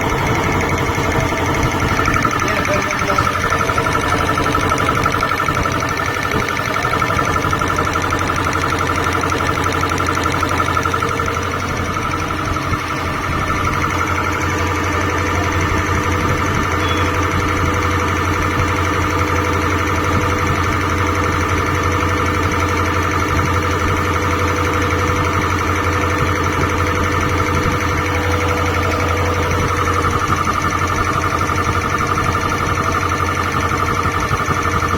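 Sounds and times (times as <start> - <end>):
air compressor pumping: 0.0 - 34.9.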